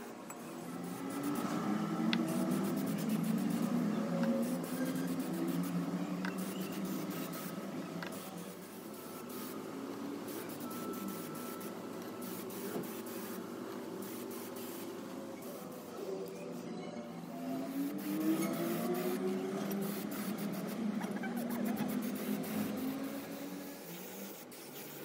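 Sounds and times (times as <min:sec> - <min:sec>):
spray can hissing: 0:00.8 - 0:09.6, 0:10.3 - 0:13.4, 0:14.0 - 0:15.9, 0:17.7 - 0:25.0.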